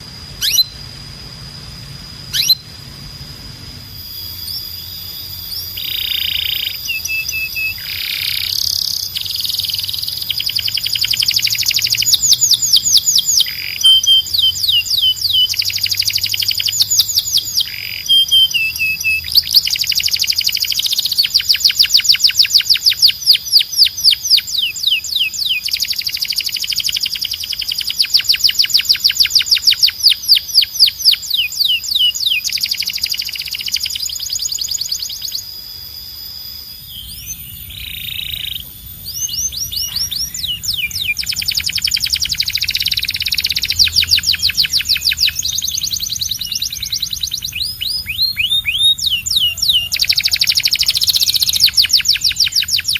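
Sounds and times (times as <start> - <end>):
canary singing trills: 0.0 - 0.9, 1.9 - 52.9
steady high held tone: 0.0 - 23.7, 29.6 - 52.9.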